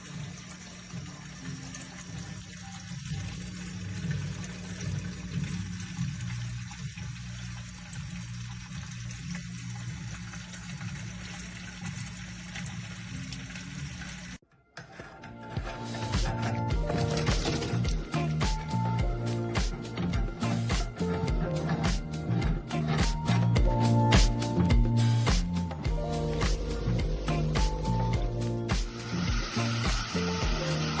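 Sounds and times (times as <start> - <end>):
water running from a hose: 0.0 - 14.4, 15.7 - 31.0.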